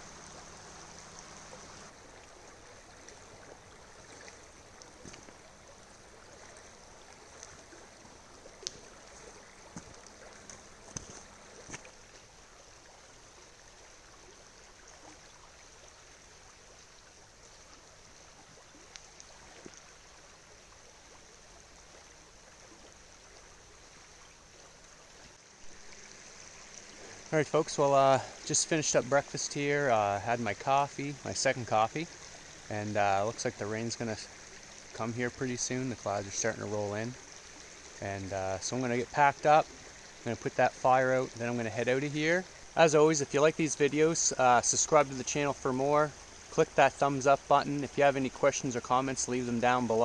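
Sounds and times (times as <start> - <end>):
river water running: 0.0 - 50.0.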